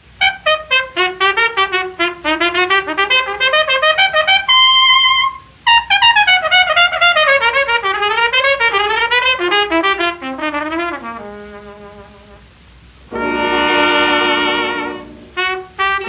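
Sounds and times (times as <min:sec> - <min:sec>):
solo jazz trumpet: 0:00.0 - 0:16.0.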